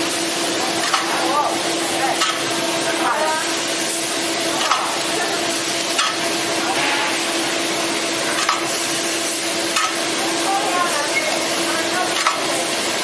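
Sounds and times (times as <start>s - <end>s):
constant machine hum: 0.0s - 13.0s
filling machine hiss: 0.0s - 13.0s.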